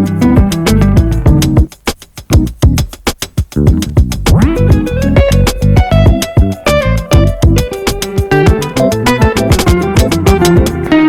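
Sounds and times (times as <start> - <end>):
upbeat guitar music with beat: 0.0 - 11.0.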